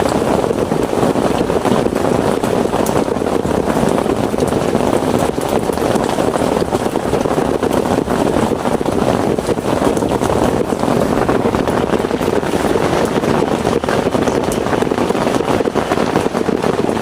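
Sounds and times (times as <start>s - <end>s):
heavy rain falling: 0.0s - 17.0s
rain drop taps: 0.0s - 17.0s.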